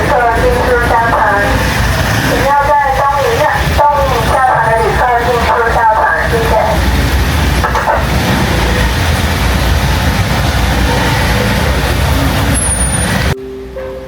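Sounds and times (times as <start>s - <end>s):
heavy engine rumble: 0.0s - 13.4s.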